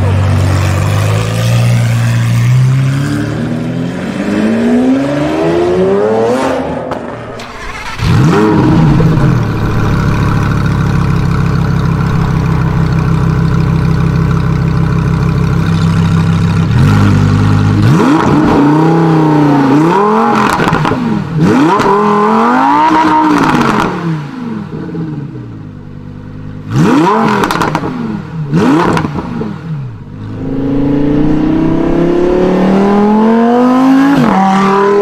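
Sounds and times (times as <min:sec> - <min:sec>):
sports car accelerating: 0:00.0 - 0:35.0
sports car engine starting and idling: 0:05.2 - 0:34.3.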